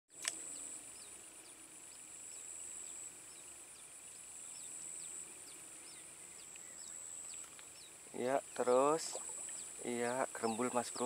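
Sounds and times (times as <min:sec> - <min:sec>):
insect chirps: 0:00.1 - 0:11.0
insect trilling: 0:00.2 - 0:11.0.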